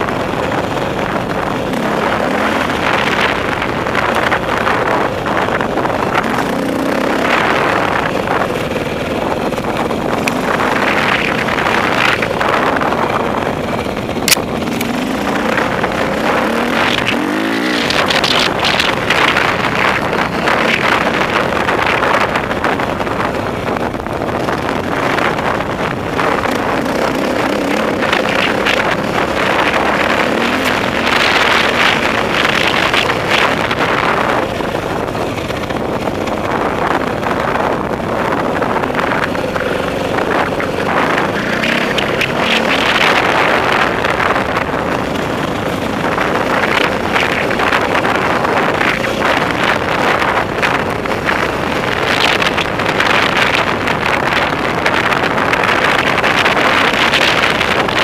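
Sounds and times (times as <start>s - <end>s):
dirt bike engine running: 0.0s - 58.0s
wind buffeting microphone: 0.0s - 58.0s.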